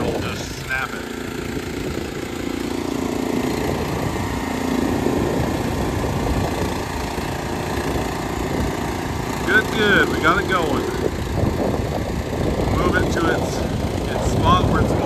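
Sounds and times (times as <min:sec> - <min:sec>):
small gas engine droning: 0:00.0 - 0:15.0.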